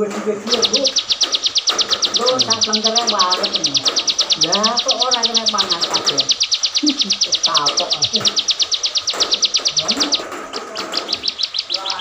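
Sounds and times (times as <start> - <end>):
people talking: 0.0 - 12.0
bird singing fast trill: 0.4 - 12.0.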